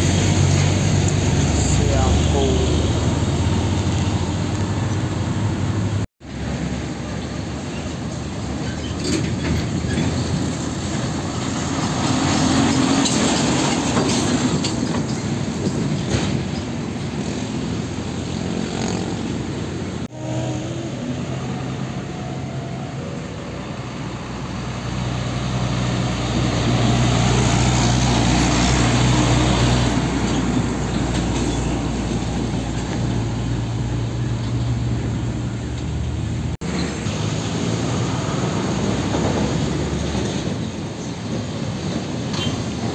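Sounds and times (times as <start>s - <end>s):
diesel trucks driving past: 0.0s - 42.9s
road traffic noise: 0.0s - 42.9s.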